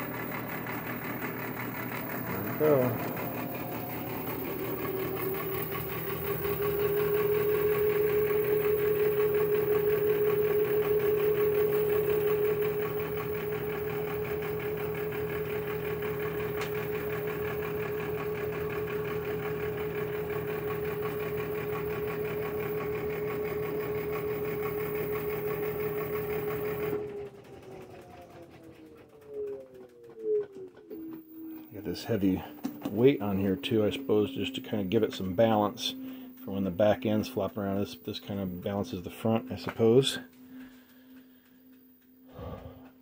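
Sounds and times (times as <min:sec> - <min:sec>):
washer-dryer motor whine: 0:00.0 - 0:43.0.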